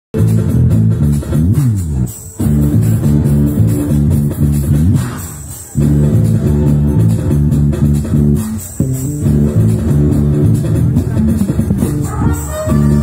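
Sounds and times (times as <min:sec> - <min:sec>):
electric bass guitar: 0:00.1 - 0:13.0
live band playing: 0:00.2 - 0:13.0.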